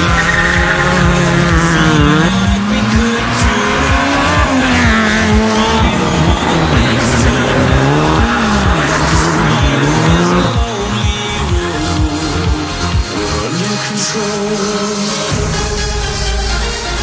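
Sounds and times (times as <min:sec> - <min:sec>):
rally car engine revving hard: 0:00.0 - 0:15.4.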